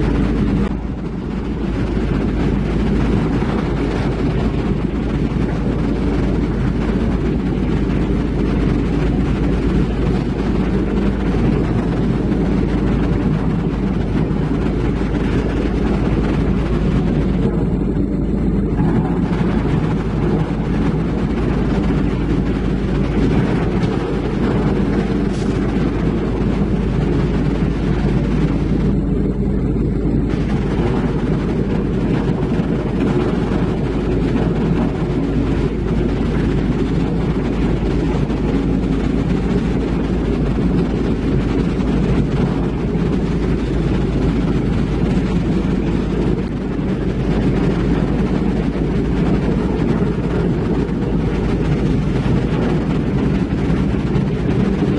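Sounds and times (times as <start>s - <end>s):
diesel engine rumbling: 0.0s - 54.9s.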